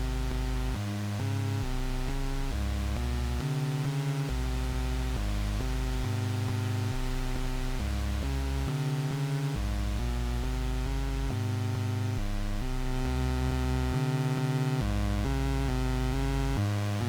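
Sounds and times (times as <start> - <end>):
synthesizer droning notes: 1.5 - 17.0.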